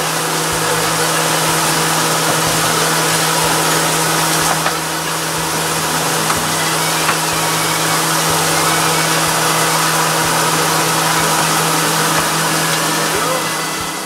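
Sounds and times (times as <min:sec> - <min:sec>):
ventilation fans whirring: 0:00.0 - 0:14.0.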